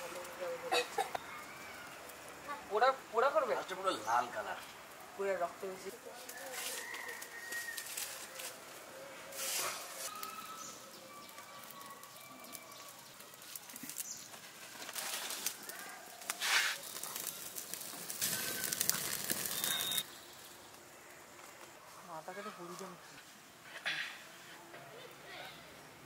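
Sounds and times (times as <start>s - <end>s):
wood fire crackling: 0.0s - 24.5s.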